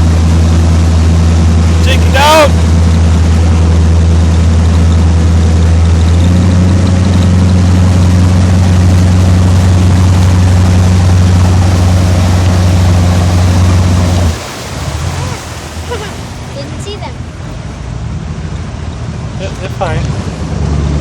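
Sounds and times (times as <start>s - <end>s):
motorboat engine droning: 0.0s - 21.0s
wind and water rushing: 0.0s - 21.0s.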